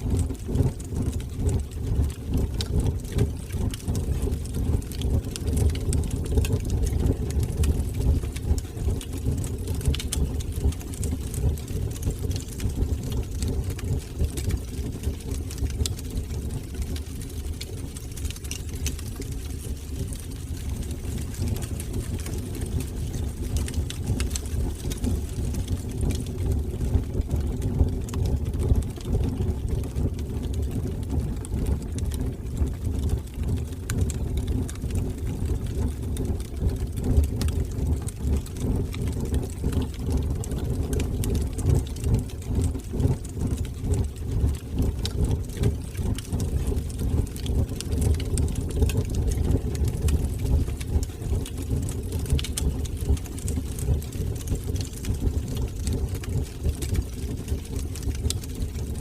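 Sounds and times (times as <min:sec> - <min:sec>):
fire crackles and pops: 0:00.0 - 0:59.0
fire rumbling in fireplace: 0:00.0 - 0:59.0.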